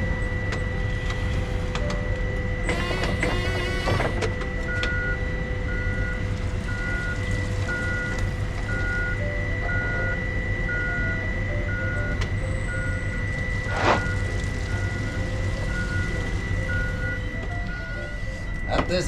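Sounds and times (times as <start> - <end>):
engine running: 0.0 - 19.0
forklift reverse alarm beeping: 0.0 - 19.0.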